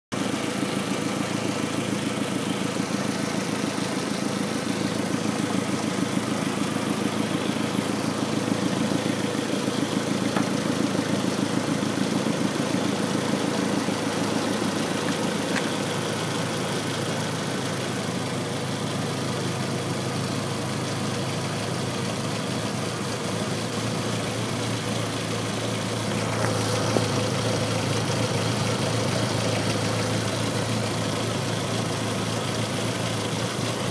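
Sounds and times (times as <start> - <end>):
car engine idling roughly: 0.1 - 33.9.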